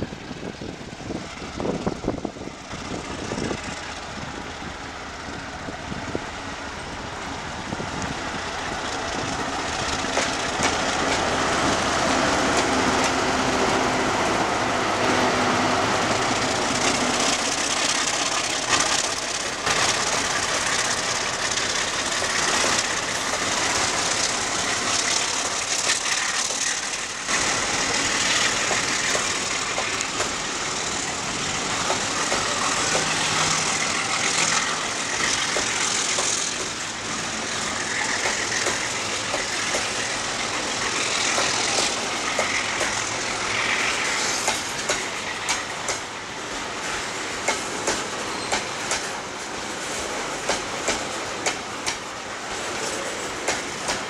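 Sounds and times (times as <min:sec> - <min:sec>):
steel train wheels rolling on rail: 0:00.0 - 0:54.0.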